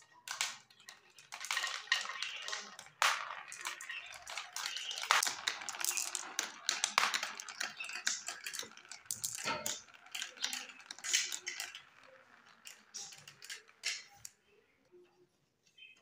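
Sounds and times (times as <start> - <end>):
marbles dropping into plastic trailer: 0.0 - 14.4
marbles rattling down plastic track: 0.0 - 14.4.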